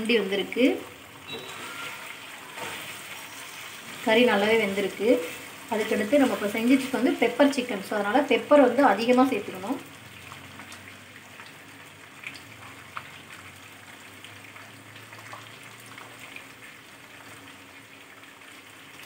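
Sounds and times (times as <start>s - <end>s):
chicken sizzling in a pan: 1.0s - 19.0s.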